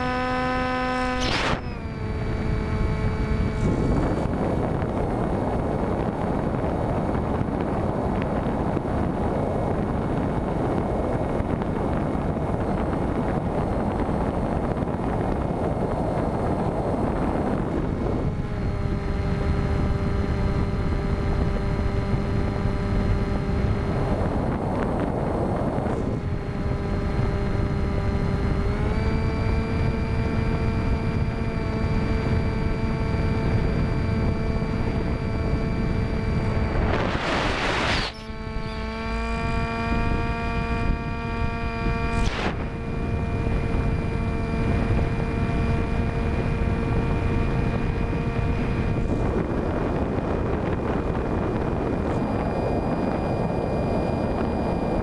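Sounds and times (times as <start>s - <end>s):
electric motor propeller whine: 0.0s - 55.0s
wind noise on microphone: 0.0s - 55.0s.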